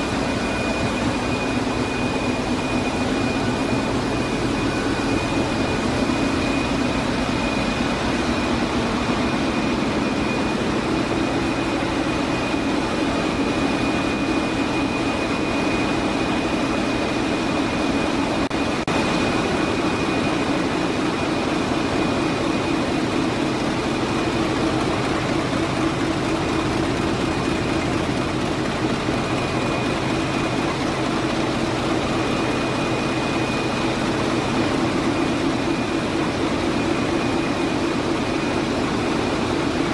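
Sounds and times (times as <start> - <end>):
ship engine running: 0.0 - 39.9.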